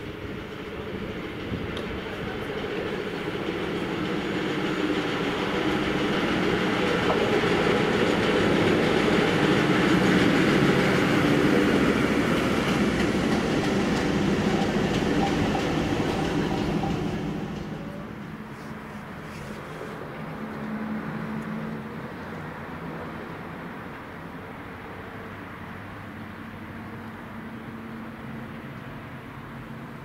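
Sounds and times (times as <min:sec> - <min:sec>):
diesel locomotive engine passing: 0:00.0 - 0:30.0.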